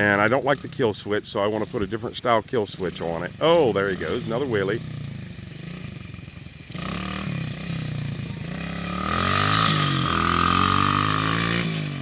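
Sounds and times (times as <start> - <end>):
pit bike engine revving: 0.0 - 12.0.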